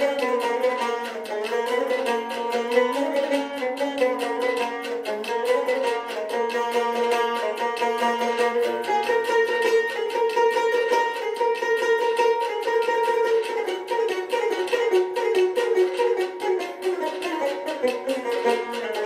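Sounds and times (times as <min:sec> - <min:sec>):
plucked lute folk dance melody: 0:00.0 - 0:19.0.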